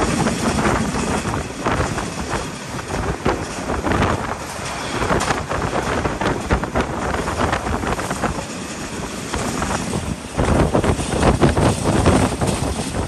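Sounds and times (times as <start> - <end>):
train running gear rattling: 0.0 - 13.0.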